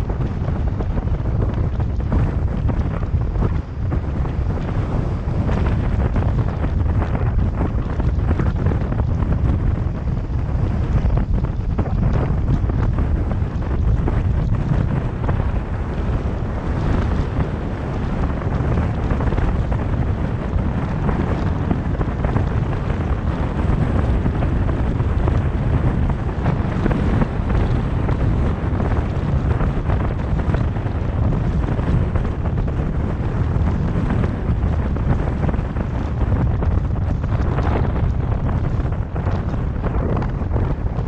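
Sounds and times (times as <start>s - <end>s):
tyre and road noise: 0.0s - 41.0s
wind rumble on microphone: 0.0s - 41.0s.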